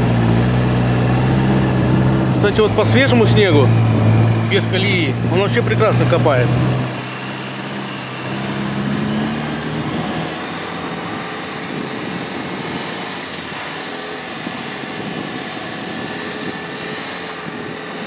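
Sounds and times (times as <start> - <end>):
even rushing noise: 0.0 - 15.2
car engine: 0.0 - 18.0.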